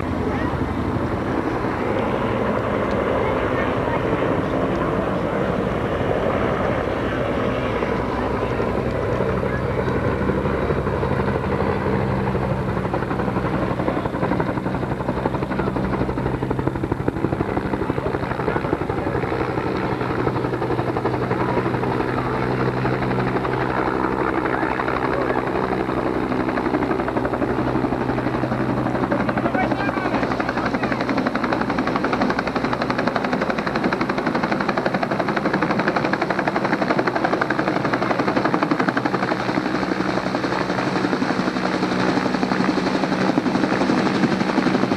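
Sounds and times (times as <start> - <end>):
helicopter turbine and rotor noise: 0.0 - 44.9.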